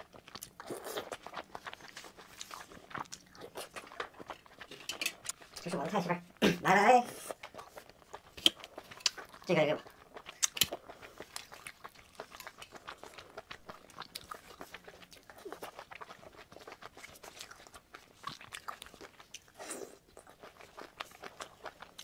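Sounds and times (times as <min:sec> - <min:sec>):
close-miked wet chewing: 0:00.0 - 0:22.0.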